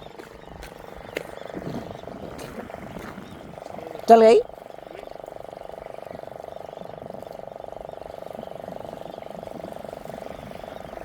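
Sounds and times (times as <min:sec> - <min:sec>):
frogs trilling: 0:00.0 - 0:11.0.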